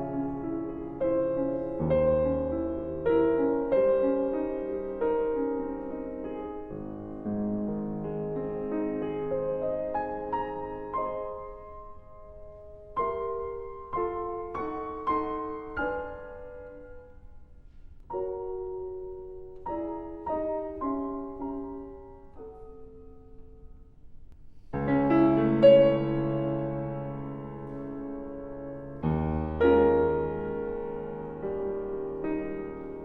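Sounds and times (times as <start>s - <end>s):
gentle solo piano: 0.0s - 23.9s, 24.5s - 33.0s.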